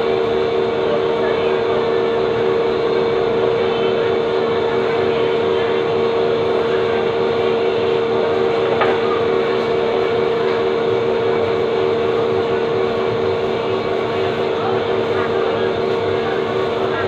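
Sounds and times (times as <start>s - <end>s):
mechanical hum with pitched tone: 0.0s - 17.0s.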